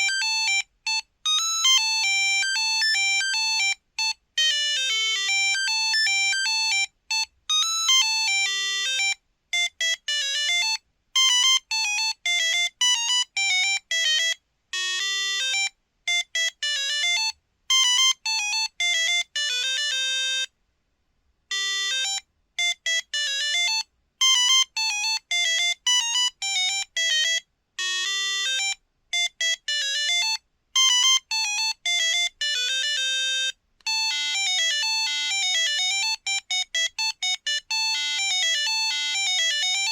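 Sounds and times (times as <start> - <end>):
monophonic phone ringtone: 0.0 - 20.5, 21.5 - 39.9.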